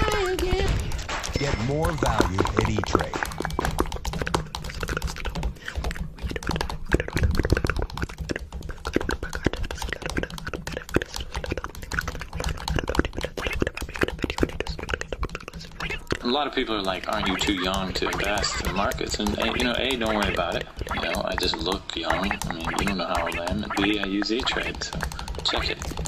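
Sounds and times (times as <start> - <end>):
rapid clicking and tapping: 0.0 - 26.0.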